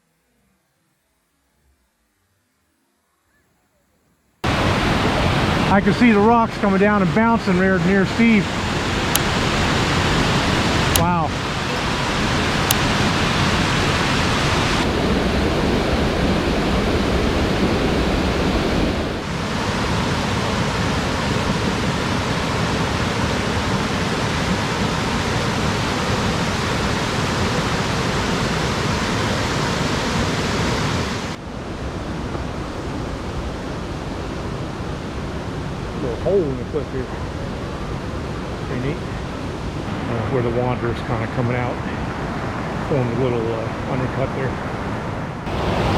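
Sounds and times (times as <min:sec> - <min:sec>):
waterfall rushing: 0:04.4 - 0:44.2, 0:45.4 - 0:45.9.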